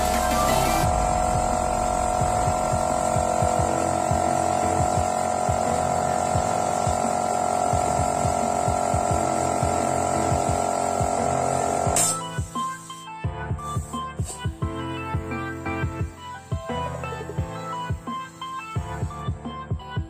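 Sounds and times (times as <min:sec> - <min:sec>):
airbrush compressor motor hum: 0:00.0 - 0:20.0.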